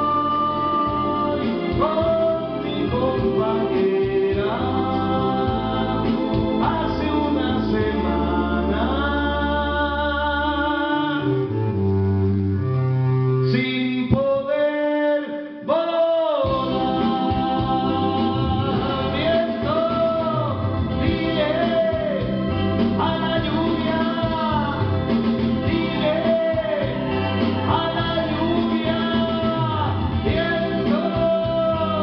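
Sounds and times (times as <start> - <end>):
man singing with vibrato: 0.0 - 11.8, 13.4 - 32.0
instrumental accompaniment: 0.0 - 14.5, 16.4 - 32.0.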